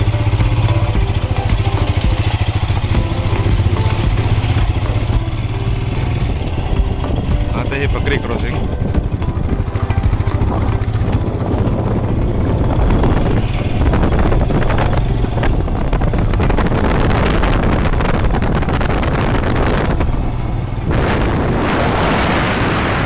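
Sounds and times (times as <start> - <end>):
motorcycle engine running: 0.0 - 23.0
wind rushing over microphone: 0.0 - 23.0.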